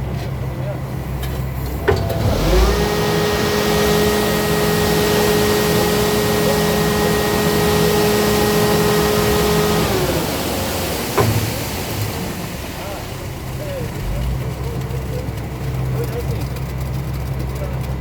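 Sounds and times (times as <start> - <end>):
motor-driven machine running: 1.4 - 17.8.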